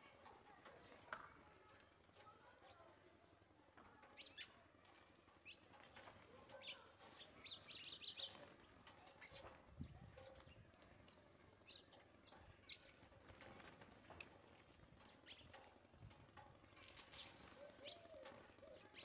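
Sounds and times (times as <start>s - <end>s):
sparrows chirping faintly: 1.5s - 19.0s.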